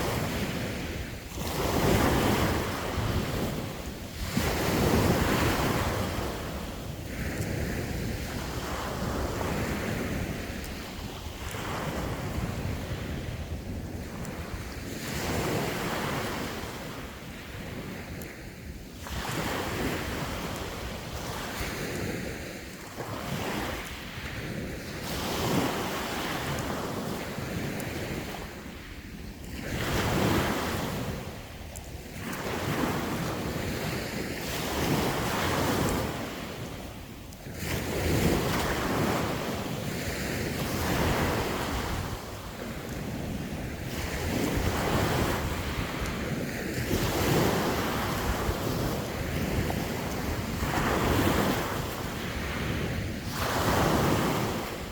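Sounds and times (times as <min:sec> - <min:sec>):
sea waves breaking on shore: 0:00.0 - 0:54.9
wind buffeting microphone: 0:00.0 - 0:54.9.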